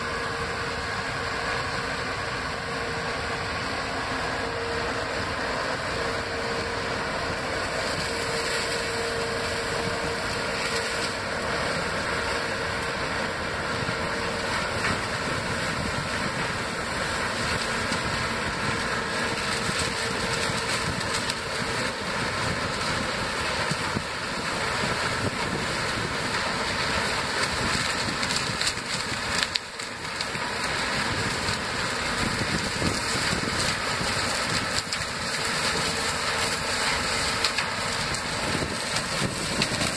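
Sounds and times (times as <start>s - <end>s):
harvester and tractor running: 0.0s - 39.9s.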